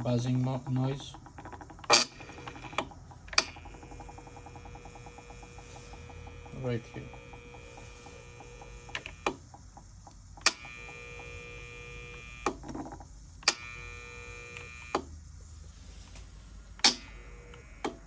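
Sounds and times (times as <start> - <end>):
solenoid valve buzzing: 0.0 - 15.2, 16.6 - 18.0.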